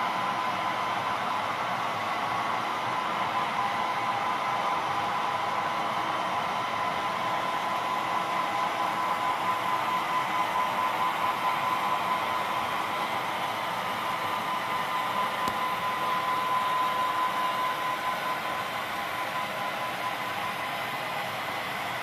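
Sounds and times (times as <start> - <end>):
model trains whirring on track: 0.0 - 22.0.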